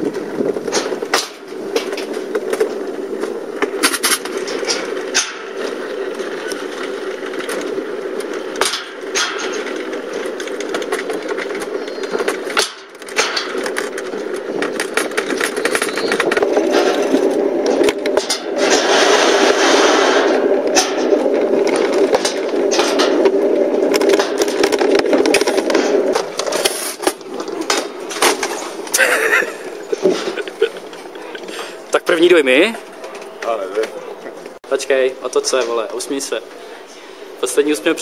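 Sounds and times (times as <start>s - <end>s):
sleds rumbling on metal track: 0.0s - 38.0s.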